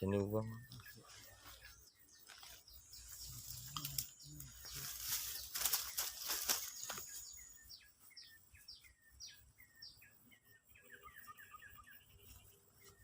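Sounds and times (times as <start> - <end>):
bird calling: 0.0 - 13.0.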